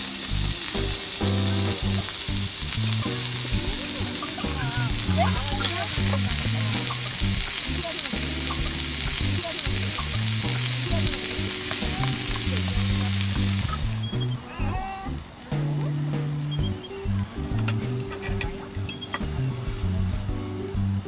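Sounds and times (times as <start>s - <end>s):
soft background music: 0.0s - 14.4s, 15.1s - 21.0s
food sizzling in pan: 0.0s - 21.0s.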